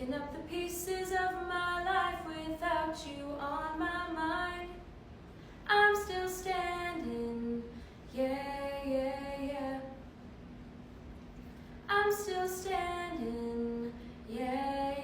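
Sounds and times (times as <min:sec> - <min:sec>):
woman singing: 0:00.0 - 0:04.8, 0:05.7 - 0:10.0, 0:11.9 - 0:15.0.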